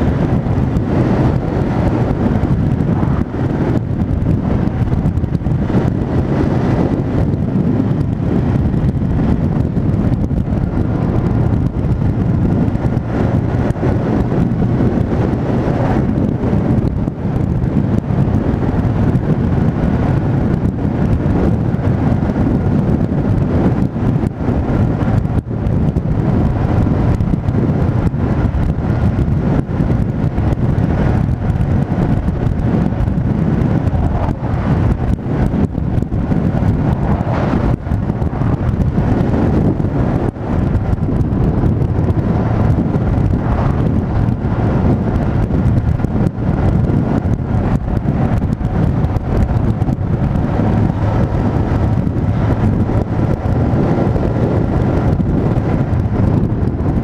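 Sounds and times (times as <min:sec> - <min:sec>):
motorcycle engine drone: 0:00.0 - 0:57.0
wind buffeting microphone: 0:00.0 - 0:57.0.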